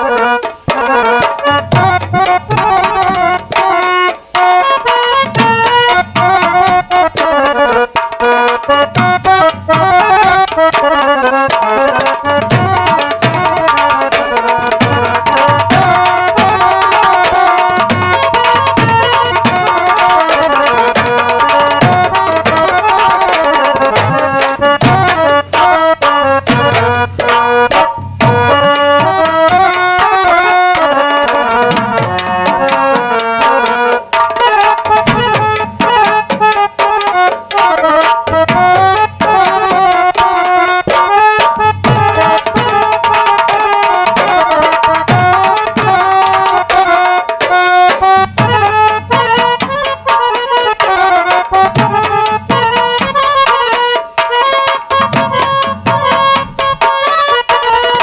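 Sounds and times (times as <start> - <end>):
hand drums beating quick rhythm: 0.0 - 58.0
harmonium melody: 0.0 - 58.0.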